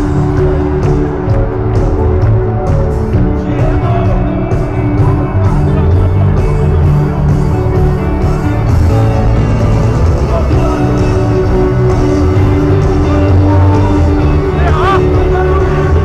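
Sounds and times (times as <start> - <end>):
live worship band music: 0.0 - 16.0.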